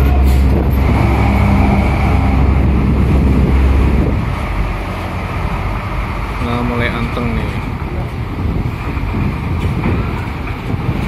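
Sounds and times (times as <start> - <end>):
diesel truck rumbling: 0.0 - 11.0
wind buffeting microphone: 0.0 - 11.0.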